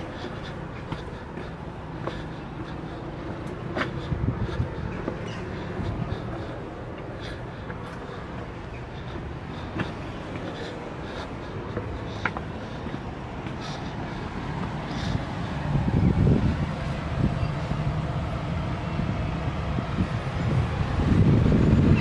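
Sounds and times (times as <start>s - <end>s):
cars passing on busy road: 0.0s - 22.0s.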